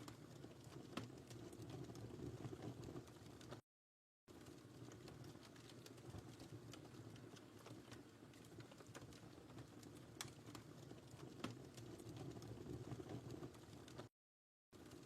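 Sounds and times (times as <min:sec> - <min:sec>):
faint wood fire crackling: 0:00.0 - 0:03.6, 0:04.3 - 0:14.1, 0:14.8 - 0:15.0.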